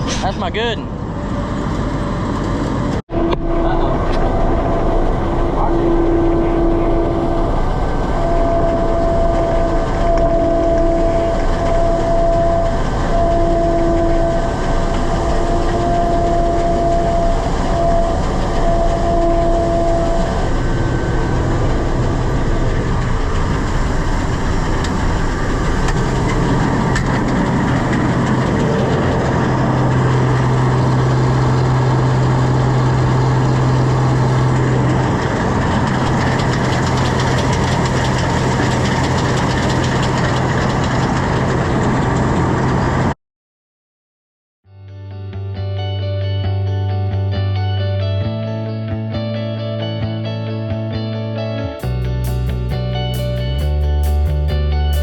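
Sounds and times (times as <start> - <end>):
steady low hum: 0.0 - 43.0, 51.8 - 55.0
combine harvester running: 0.0 - 43.2, 51.8 - 55.0
high machine whine: 0.0 - 43.2, 51.8 - 55.0.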